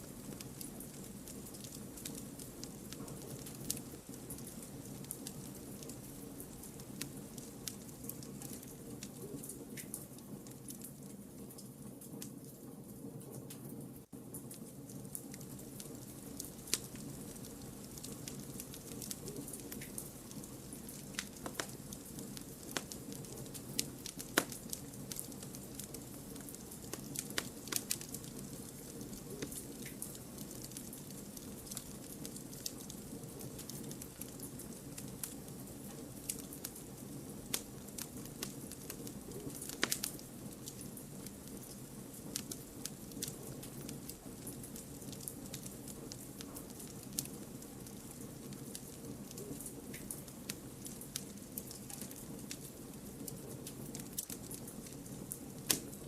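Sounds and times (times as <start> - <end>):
campfire crackling: 0.0 - 12.4, 14.2 - 56.0
fire pops and snaps: 0.0 - 12.6, 14.3 - 56.0
low rumble of flames: 0.0 - 56.0.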